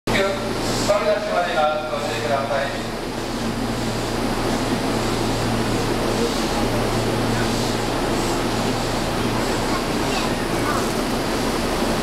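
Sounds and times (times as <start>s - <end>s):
electric train humming and rumbling: 0.1s - 12.0s.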